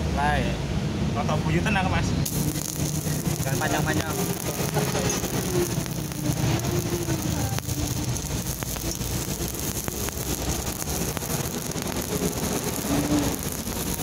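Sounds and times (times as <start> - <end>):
welding arc crackling hiss: 2.2 - 14.0
sharp clicks: 2.3 - 14.0.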